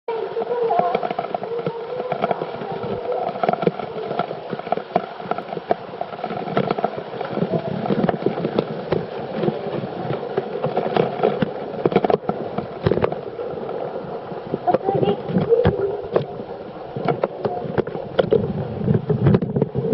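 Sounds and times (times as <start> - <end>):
rush of falling water: 0.1 - 19.9
water splashing: 0.1 - 19.9.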